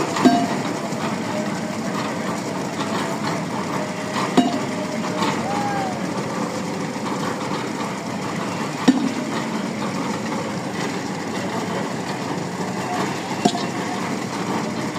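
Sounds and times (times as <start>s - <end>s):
pile driving rig running: 0.0s - 14.9s.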